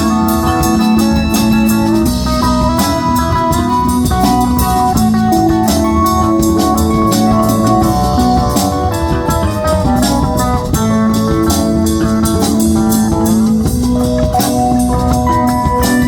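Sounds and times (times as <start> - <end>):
drum kit: 0.0 - 16.0
guitar notes: 0.0 - 16.0
rock band playing: 0.0 - 16.0.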